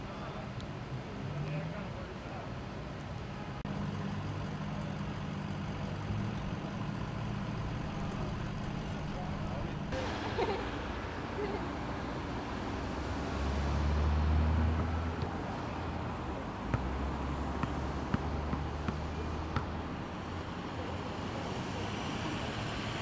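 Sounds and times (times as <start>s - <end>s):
street traffic: 0.0s - 23.0s
vehicle engine humming low: 0.1s - 23.0s.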